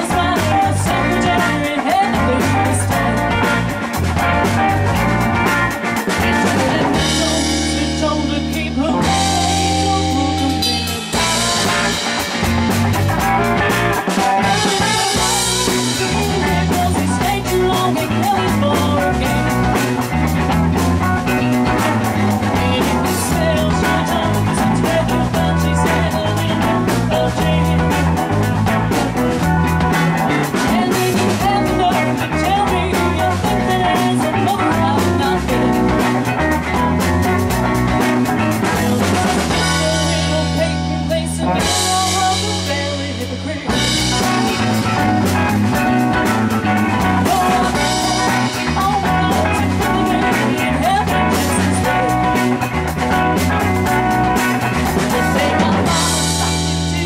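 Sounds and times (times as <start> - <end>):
drum kit beat: 0.0 - 57.0
electric guitar: 0.0 - 57.0.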